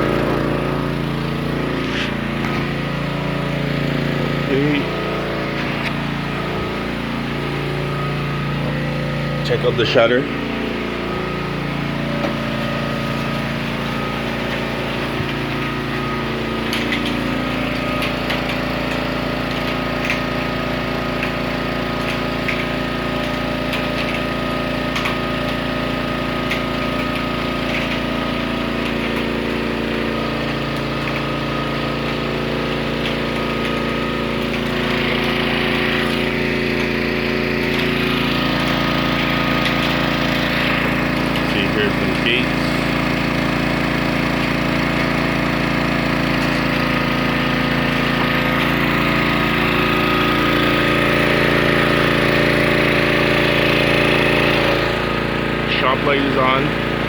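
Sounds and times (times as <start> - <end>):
portable generator engine running: 0.0 - 57.0.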